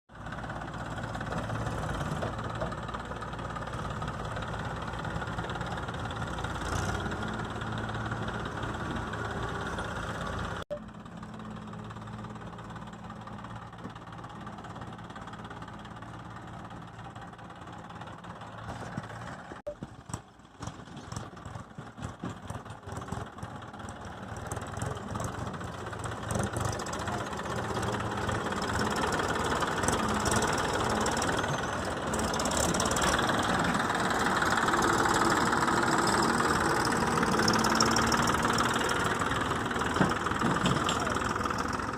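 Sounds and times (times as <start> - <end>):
tractor engine idling: 0.1 - 41.9.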